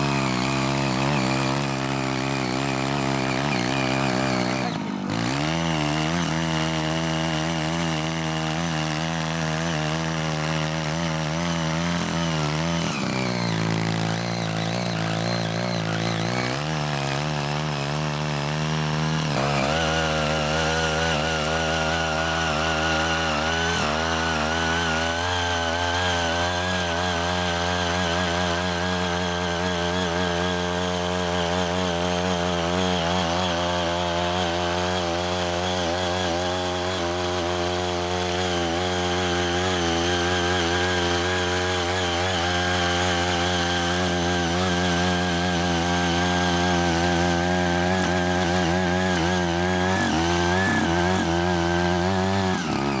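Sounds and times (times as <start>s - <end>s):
small petrol engine running: 0.0s - 53.0s
tiller tines churning soil: 0.0s - 53.0s.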